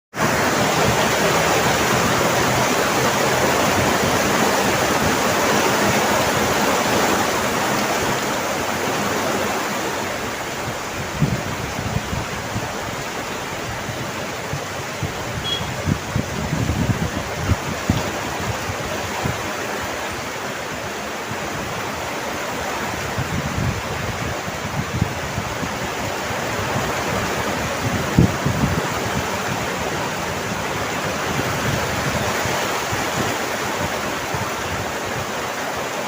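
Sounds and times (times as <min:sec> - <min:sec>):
heavy rain: 0:00.1 - 0:36.0.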